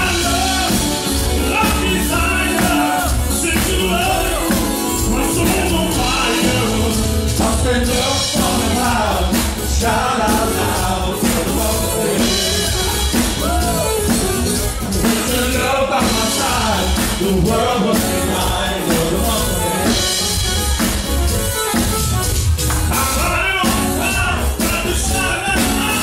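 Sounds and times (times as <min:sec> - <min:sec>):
person singing: 0:00.0 - 0:20.5, 0:22.9 - 0:26.0
congas: 0:00.0 - 0:26.0
live band dance music: 0:00.0 - 0:26.0.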